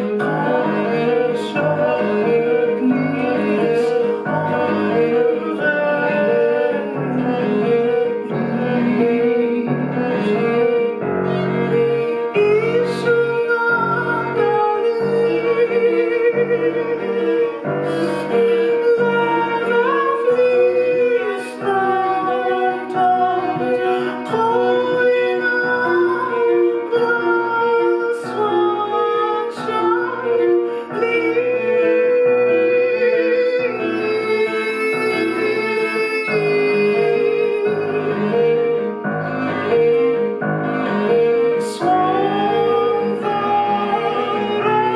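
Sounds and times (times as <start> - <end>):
bowed strings: 0.0 - 44.9
piano: 0.0 - 44.9.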